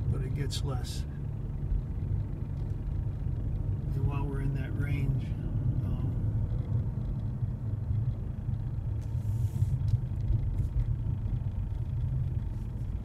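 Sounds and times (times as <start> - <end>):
car driveline rumble: 0.0 - 13.0
road noise: 0.0 - 13.0.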